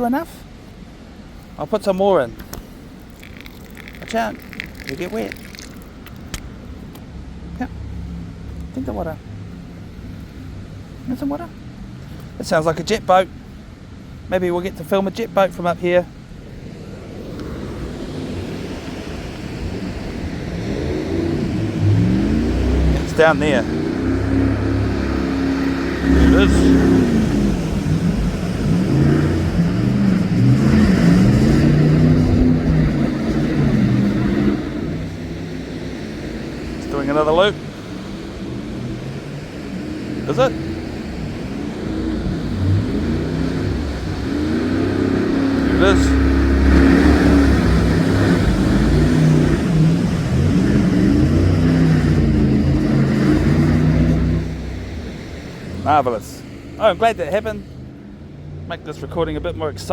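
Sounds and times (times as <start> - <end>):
jet boat engine: 0.0 - 59.9.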